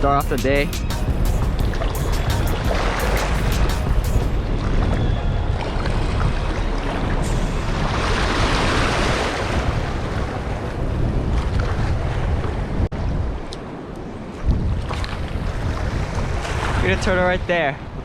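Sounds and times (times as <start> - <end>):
wind buffeting microphone: 0.0 - 18.0
surf washing over reef: 1.2 - 18.0.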